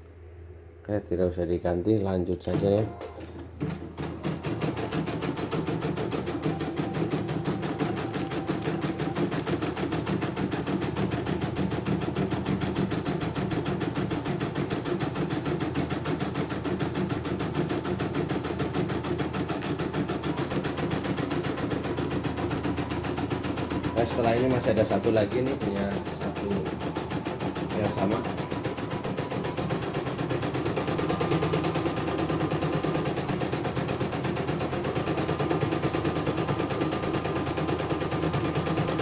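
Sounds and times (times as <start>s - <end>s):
embroidery machine stitching: 2.4s - 39.0s.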